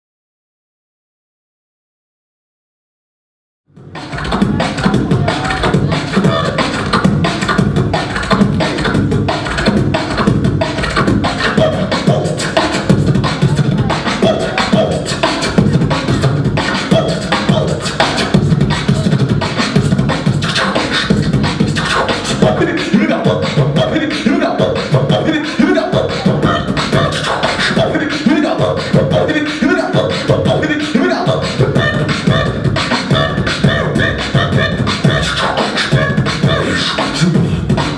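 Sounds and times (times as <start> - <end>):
person beatboxing: 3.8 - 37.9.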